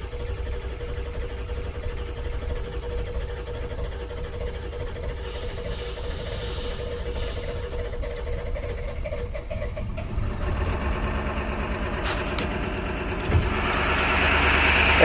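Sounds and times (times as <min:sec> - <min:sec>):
diesel engine cranking: 0:00.0 - 0:15.0
engine firing: 0:00.0 - 0:15.0.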